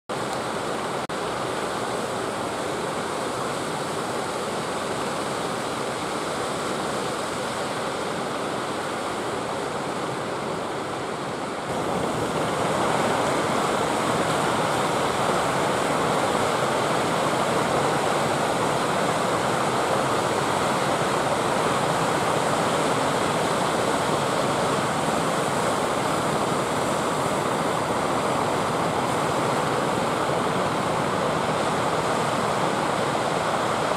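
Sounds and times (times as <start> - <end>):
ocean waves washing on beach: 0.1 - 33.9.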